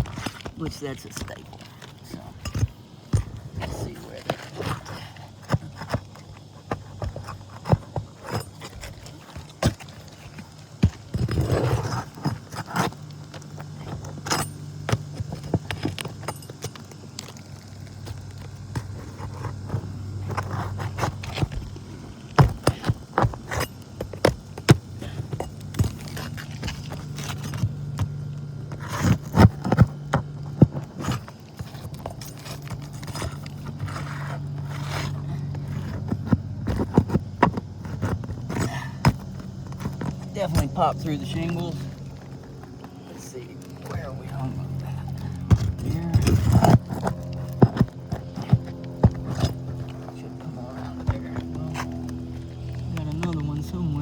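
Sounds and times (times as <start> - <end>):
hand tool scraping under shingles: 0.0 - 54.0
steady low hum: 0.0 - 54.0.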